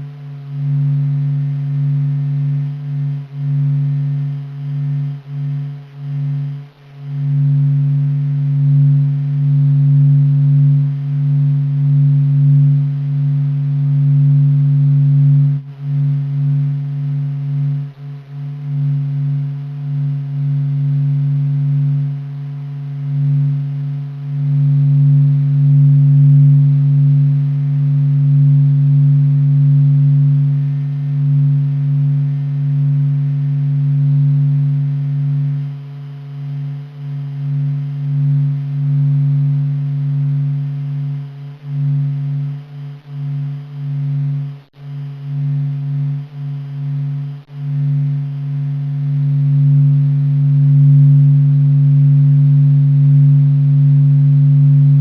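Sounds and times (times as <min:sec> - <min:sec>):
deep electronic drone: 0:00.0 - 0:55.0.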